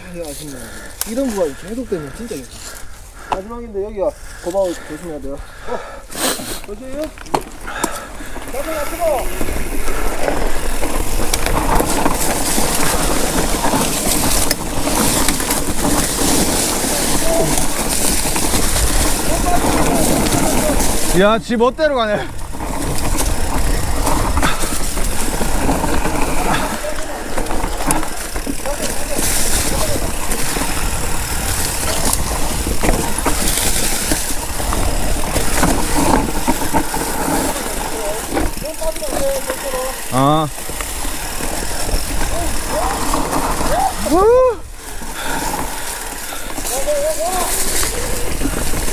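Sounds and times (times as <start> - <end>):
bike tyre noise on dirt: 0.0 - 48.9
bike rattling clicks: 6.3 - 48.9
wind buffeting microphone: 7.0 - 48.9.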